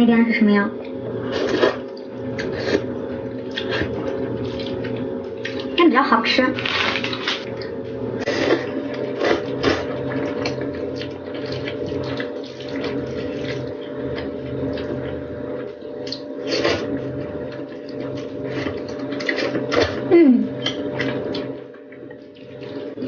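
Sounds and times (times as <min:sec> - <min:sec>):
pulsing low hum: 0:00.0 - 0:23.0
person chewing and slurping: 0:00.9 - 0:05.8, 0:06.6 - 0:23.0.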